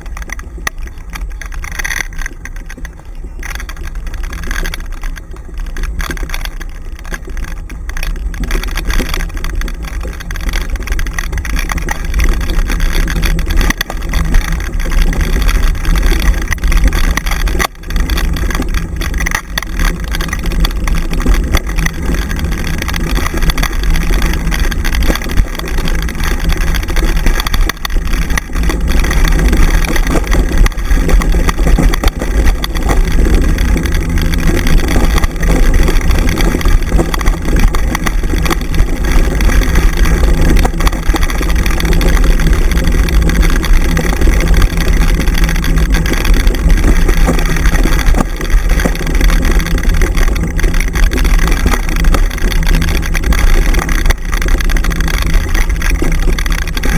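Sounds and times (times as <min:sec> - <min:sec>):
scooter wheels rumbling and rattling: 0:00.0 - 0:56.9
wind noise on microphone: 0:00.0 - 0:56.9.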